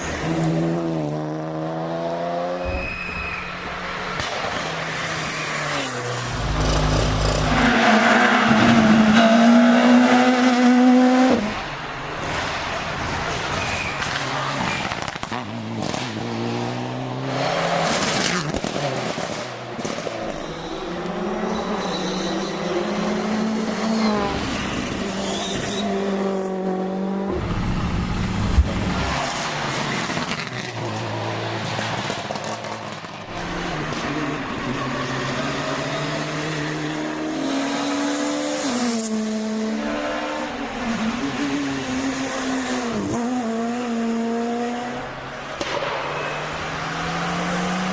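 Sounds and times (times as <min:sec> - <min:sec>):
rally car engines revving: 0:00.0 - 0:47.9.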